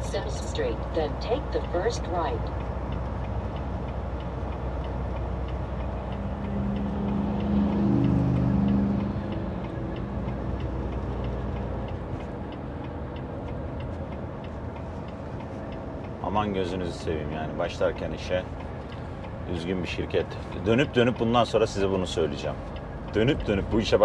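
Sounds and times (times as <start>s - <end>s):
diesel engine humming: 0.0s - 24.0s
turn signal ticking: 0.0s - 24.0s.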